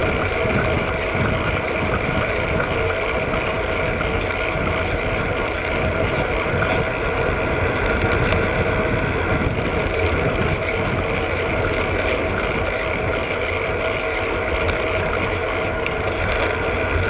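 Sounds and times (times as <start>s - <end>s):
bike tyre road noise: 0.0s - 17.0s
constant hum: 0.0s - 17.0s.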